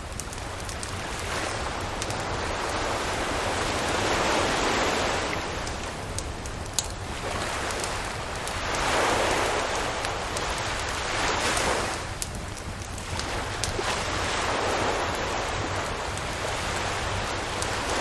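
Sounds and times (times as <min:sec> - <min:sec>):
campfire pops and crackles: 0:00.0 - 0:18.0
ocean waves washing onto beach: 0:00.0 - 0:18.0.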